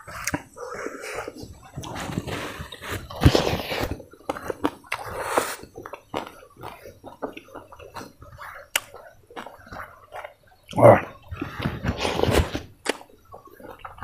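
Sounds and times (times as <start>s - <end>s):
person chewing food: 0.0s - 14.0s
crunching bites: 1.8s - 14.0s.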